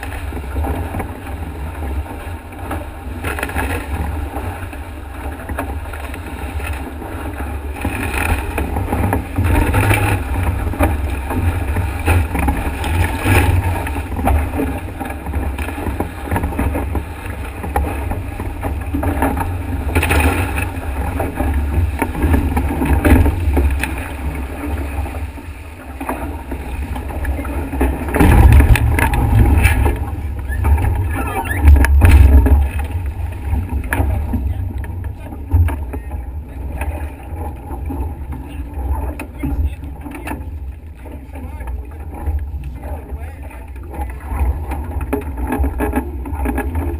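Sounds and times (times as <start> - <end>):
wind buffeting microphone: 0.0 - 40.9
water rushing along boat hull: 0.0 - 46.9.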